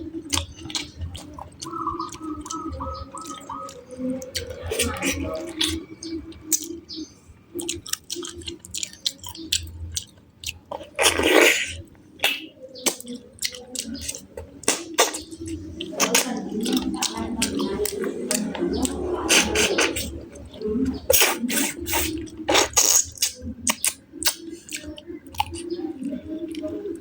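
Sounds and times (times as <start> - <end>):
person chewing food: 0.0 - 7.0, 7.6 - 27.0
wet mouth clicks: 0.3 - 6.8, 7.6 - 26.7.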